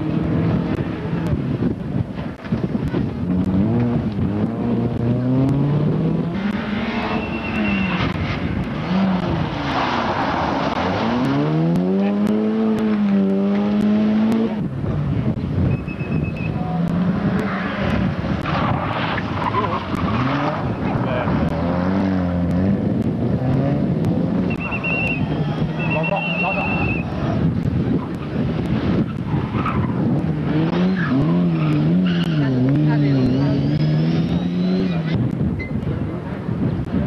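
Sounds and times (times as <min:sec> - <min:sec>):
rally cars driving past: 0:00.0 - 0:37.0.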